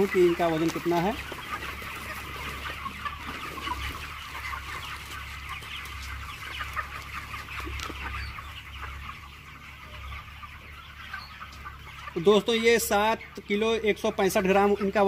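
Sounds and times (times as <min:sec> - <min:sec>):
flock of chickens calling: 0:00.0 - 0:15.0.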